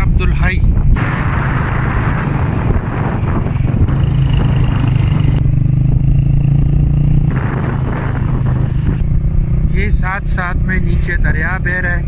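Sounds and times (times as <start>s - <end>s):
road noise: 0.0s - 12.0s
vehicle engine running: 0.8s - 12.0s.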